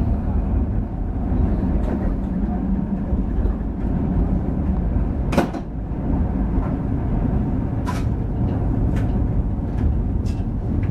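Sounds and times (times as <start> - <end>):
train carriage rumble: 0.0 - 10.9.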